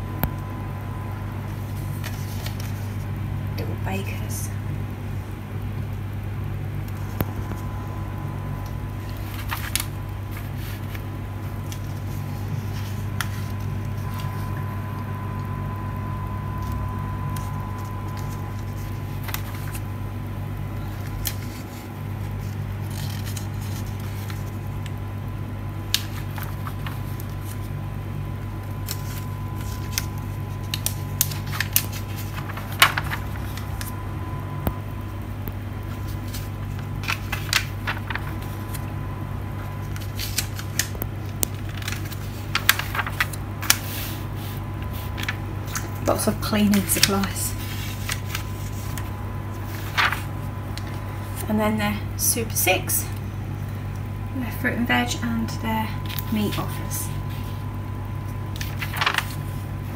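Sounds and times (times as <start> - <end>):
steady low hum: 0.0 - 59.9
magazine pages rustling: 1.4 - 3.2, 6.8 - 25.1, 25.7 - 34.8, 35.5 - 51.5, 56.0 - 59.9.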